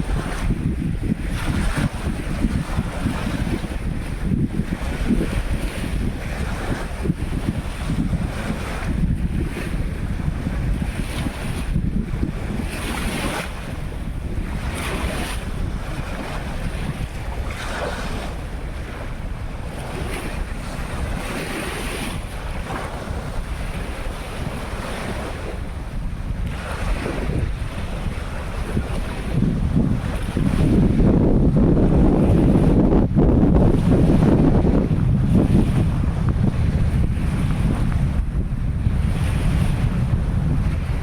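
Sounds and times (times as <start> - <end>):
waves breaking on beach: 0.0 - 41.0
wind buffeting microphone: 0.0 - 41.0.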